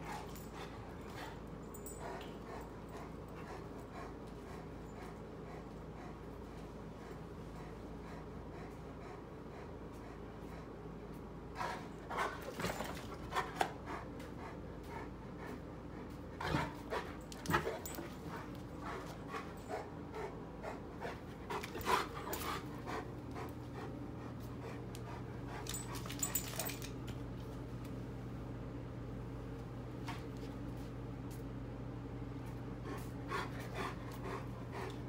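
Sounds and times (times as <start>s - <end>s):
large dog panting: 0.0s - 26.8s, 32.8s - 35.0s.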